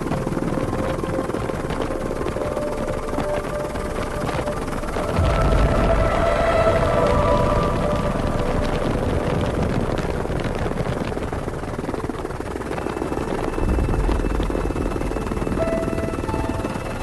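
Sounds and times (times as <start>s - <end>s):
faint music notes: 0.0s - 17.0s
helicopter rotor chopping: 0.0s - 17.0s.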